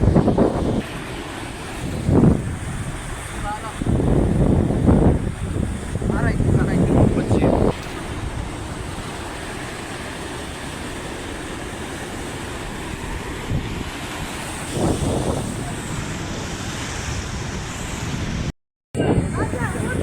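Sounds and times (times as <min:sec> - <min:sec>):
sea surf: 0:00.0 - 0:20.0
wind buffeting microphone: 0:00.0 - 0:20.0.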